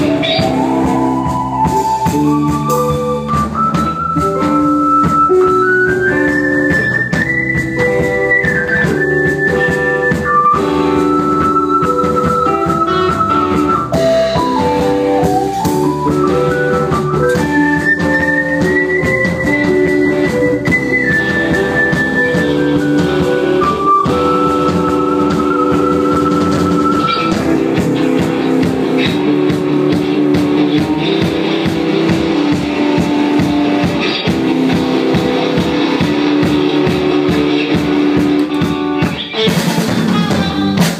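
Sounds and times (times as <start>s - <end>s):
instrumental rock music: 0.0s - 40.9s.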